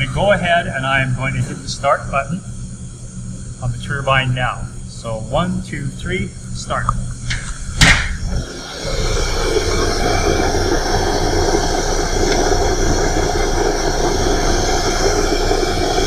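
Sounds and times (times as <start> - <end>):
machinery whirring: 3.0 - 16.0.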